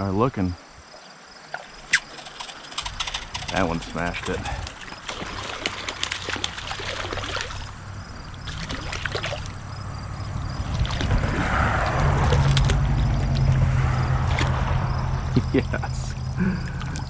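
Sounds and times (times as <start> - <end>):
creek water splashing: 0.8 - 15.5.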